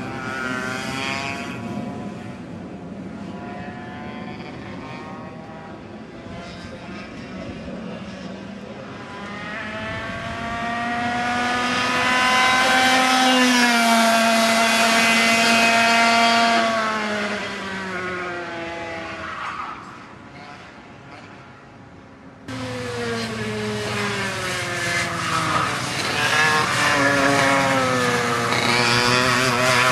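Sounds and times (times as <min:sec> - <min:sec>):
kart engine passing at high revs: 0:00.0 - 0:21.5, 0:22.5 - 0:29.9.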